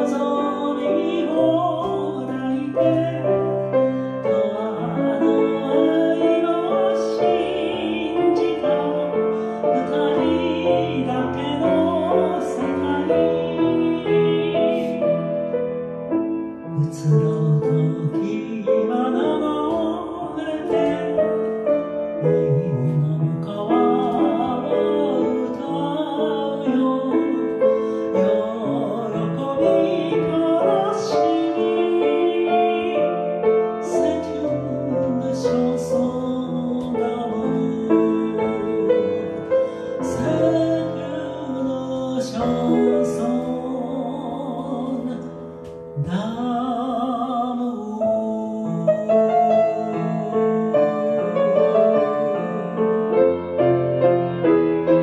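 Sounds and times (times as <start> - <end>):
woman singing with vibrato: 0.0 - 15.2, 16.8 - 45.4, 46.0 - 52.9
grand piano: 0.0 - 55.0.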